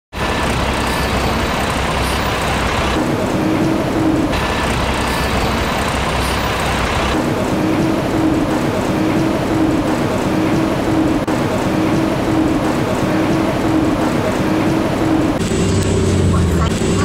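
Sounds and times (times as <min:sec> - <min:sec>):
escalator running: 0:00.1 - 0:17.0
pulsing hum: 0:00.2 - 0:17.0.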